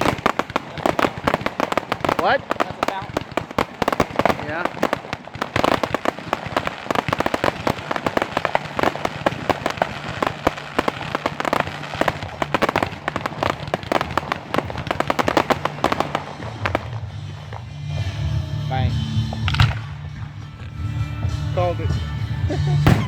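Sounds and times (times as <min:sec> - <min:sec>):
fireworks popping and crackling: 0:00.0 - 0:23.0.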